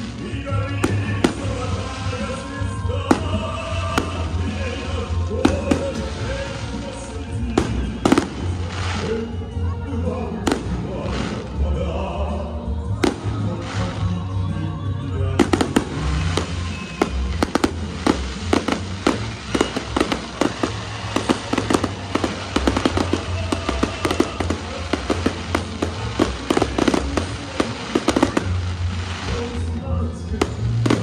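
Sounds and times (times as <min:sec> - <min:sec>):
fireworks popping and crackling: 0:00.0 - 0:12.0, 0:12.9 - 0:14.5, 0:15.2 - 0:31.0
music: 0:00.0 - 0:31.0.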